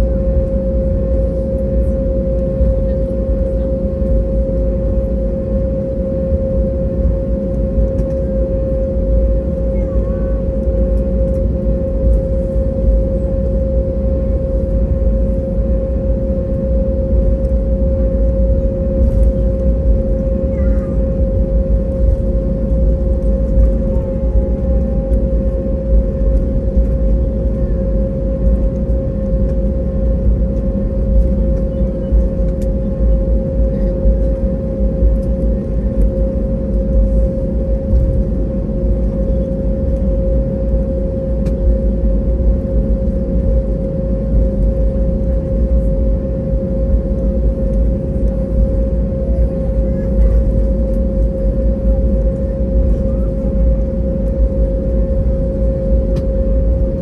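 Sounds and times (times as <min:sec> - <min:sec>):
aircraft cabin rumble: 0:00.0 - 0:57.0
constant mid-pitched hum: 0:00.0 - 0:57.0.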